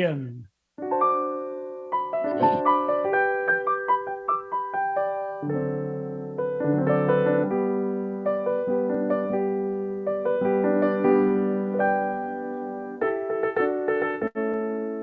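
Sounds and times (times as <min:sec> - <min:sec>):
solo piano: 0:00.8 - 0:15.0.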